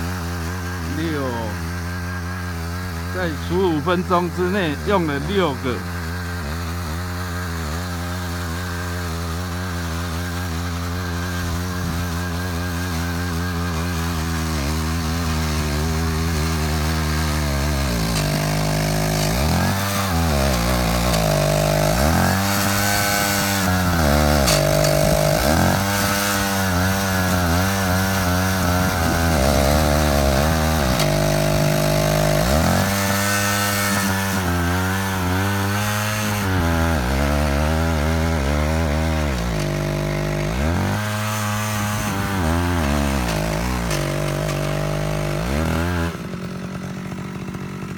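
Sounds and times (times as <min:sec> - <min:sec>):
power tiller engine bogging down: 0:00.0 - 0:47.9.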